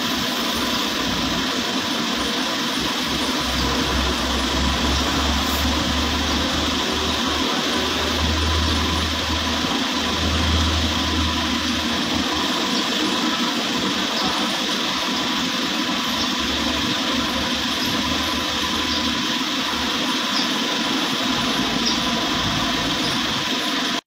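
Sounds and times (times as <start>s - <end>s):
truck engine idling: 0.1s - 24.0s.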